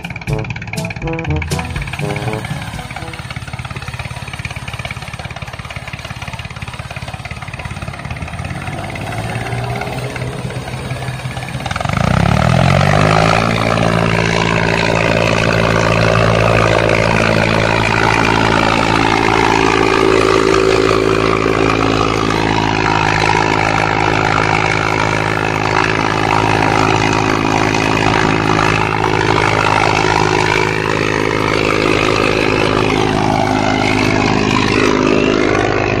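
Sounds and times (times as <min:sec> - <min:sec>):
toy tractor motor whirring: 0:00.0 - 0:35.6.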